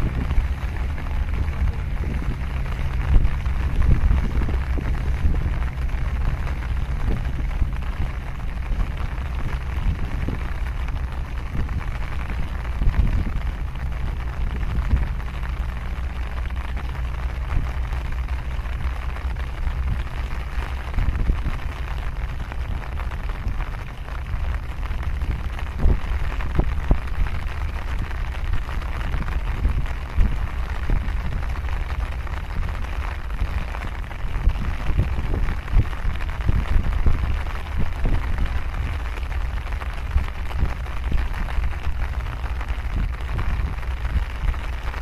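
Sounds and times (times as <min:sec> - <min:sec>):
continuous hiss: 0:00.0 - 0:45.0
wind buffeting microphone: 0:00.0 - 0:45.0.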